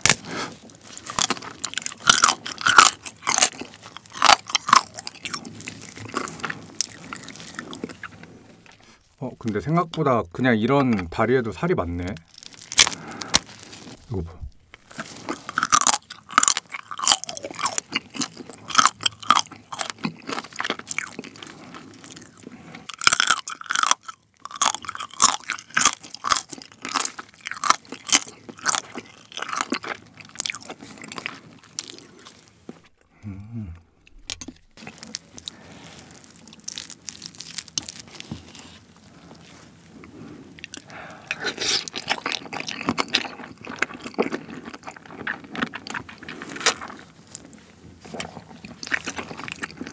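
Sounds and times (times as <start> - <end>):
crunching and chewing crab: 0.0 - 9.6, 12.1 - 49.9.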